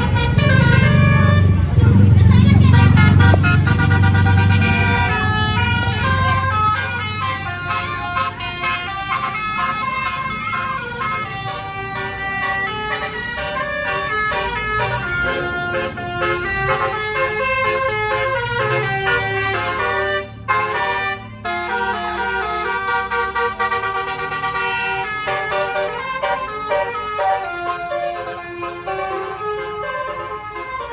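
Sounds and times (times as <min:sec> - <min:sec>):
bus engine rumble: 0:00.0 - 0:30.9
multi-tone bus horn melody: 0:00.0 - 0:30.9.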